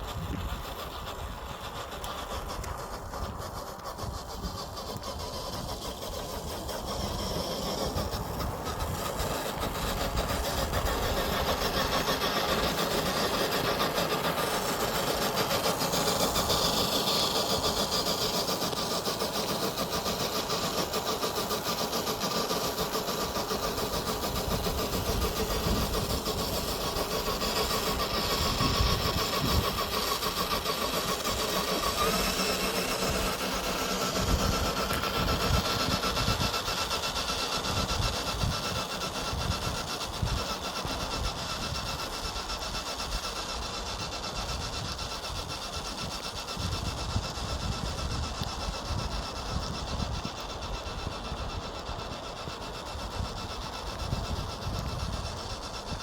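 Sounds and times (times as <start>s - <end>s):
toy car motor whirring: 0.0s - 56.0s.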